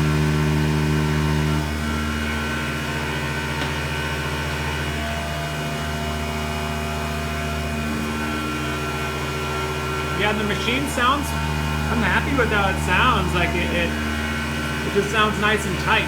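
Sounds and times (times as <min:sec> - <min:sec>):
milling machine motors humming: 0:00.0 - 0:16.0.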